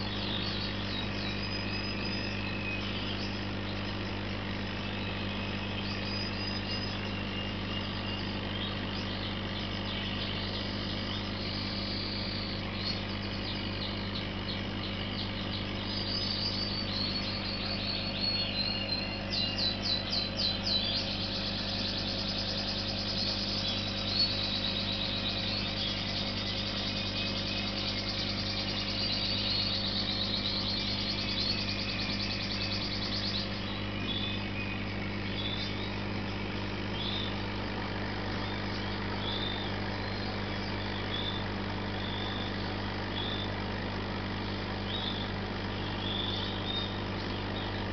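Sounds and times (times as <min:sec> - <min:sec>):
low electrical hum: 0:00.0 - 0:47.9
small birds chirping and trilling: 0:00.0 - 0:47.9.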